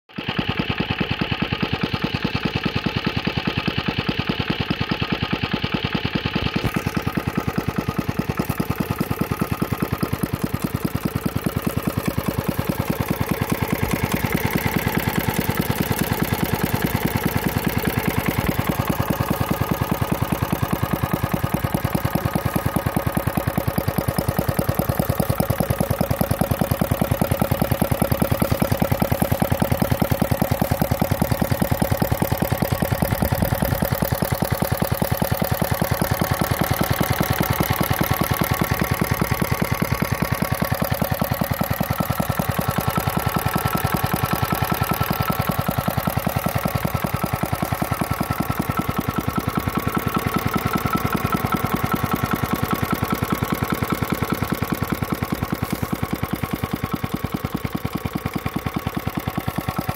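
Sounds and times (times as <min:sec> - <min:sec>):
small engine running: 0:00.1 - 0:59.9.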